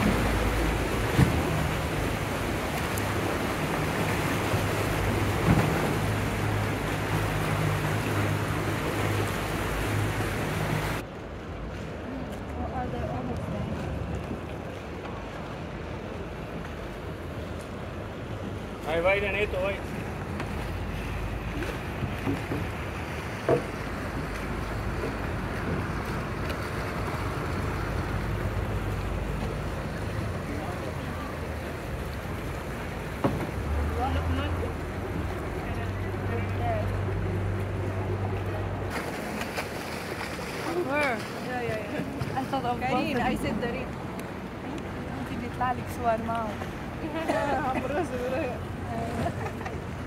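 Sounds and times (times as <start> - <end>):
motorboat engines droning: 0.0 - 50.0
water wash: 0.0 - 50.0.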